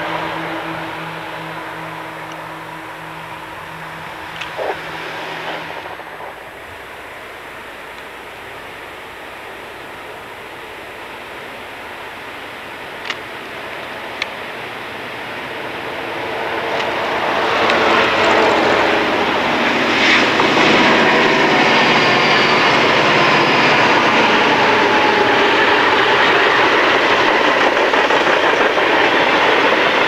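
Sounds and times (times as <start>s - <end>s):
high whine: 0.0s - 27.3s
freight train passing: 0.0s - 30.0s
locomotive engine drone: 0.0s - 30.0s.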